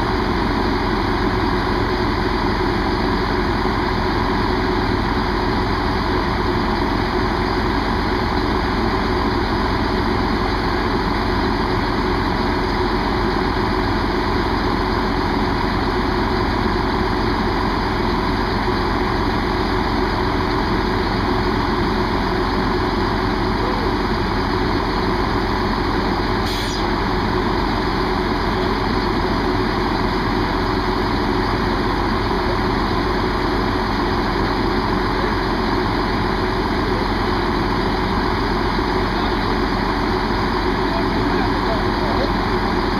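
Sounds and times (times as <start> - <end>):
diesel train engine idling: 0.0 - 42.9.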